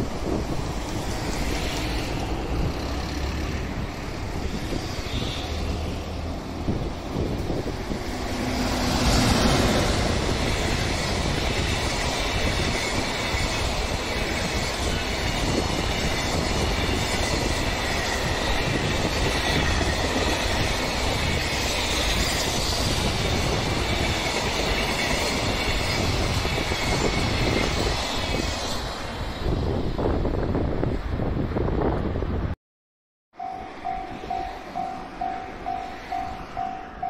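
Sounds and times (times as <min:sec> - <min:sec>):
electric locomotive passing: 0:00.0 - 0:32.2, 0:33.4 - 0:37.0
wagon wheels rumbling on rail: 0:00.0 - 0:32.4.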